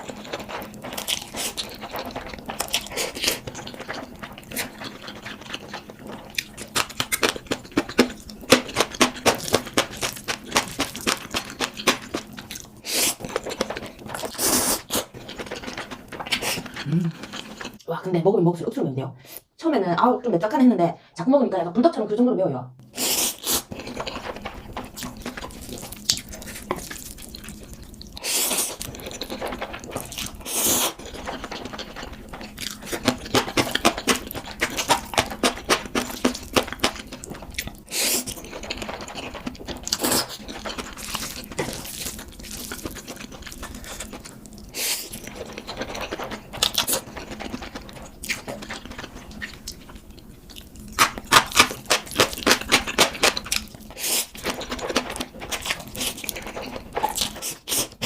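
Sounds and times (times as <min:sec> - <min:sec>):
noodles slurped and chewed: 0:00.0 - 0:17.8, 0:22.9 - 0:58.0.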